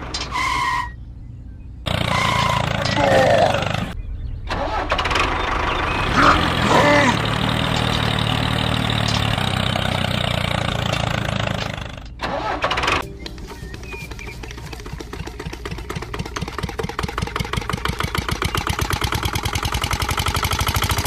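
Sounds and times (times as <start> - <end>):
small tractor engine running: 1.8 - 21.0.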